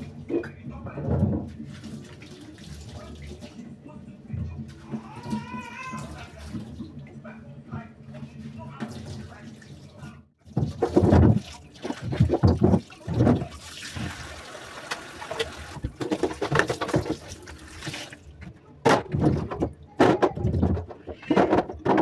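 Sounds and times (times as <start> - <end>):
splashing and knocks while washing: 0.0 - 3.7, 4.3 - 22.0.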